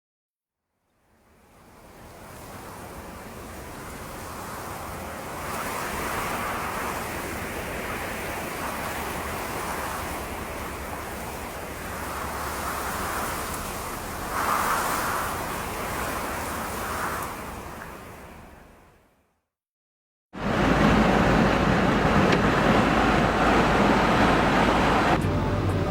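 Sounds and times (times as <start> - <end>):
wind: 0.6 - 19.5, 20.3 - 25.9
waves rushing: 1.4 - 18.8, 20.4 - 25.2.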